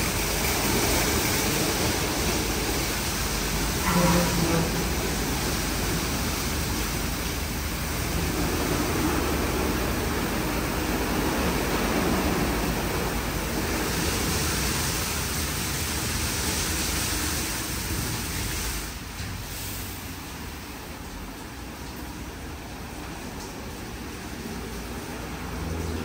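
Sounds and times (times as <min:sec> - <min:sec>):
car wash running: 0:00.0 - 0:26.0.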